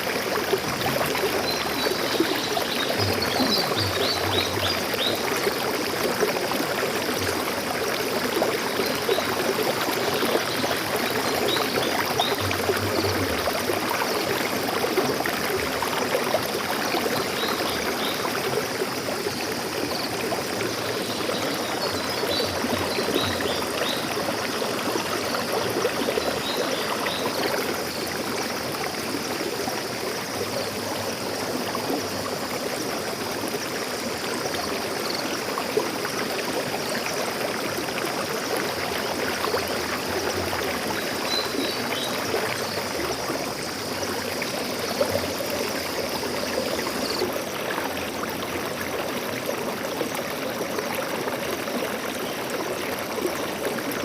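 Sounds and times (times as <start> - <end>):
stream water rushing and gurgling: 0.0 - 54.0.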